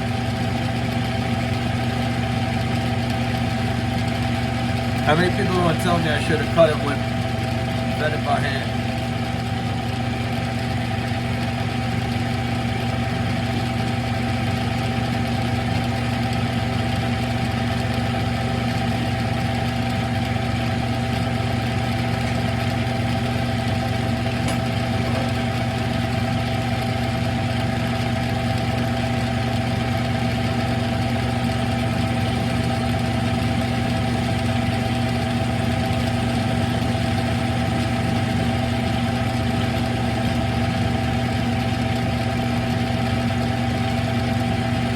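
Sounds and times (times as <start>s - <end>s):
lathe humming: 0.0s - 44.9s.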